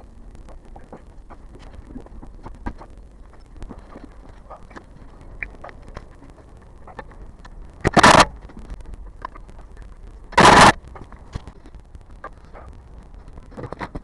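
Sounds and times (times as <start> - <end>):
small ticks and rattles: 0.0 - 14.0.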